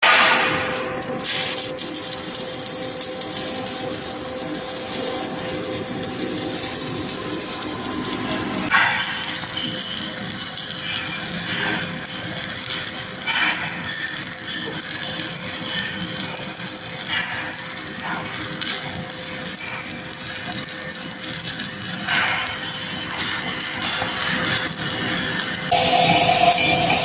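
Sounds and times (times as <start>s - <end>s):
welding arc crackling: 0.1s - 27.0s.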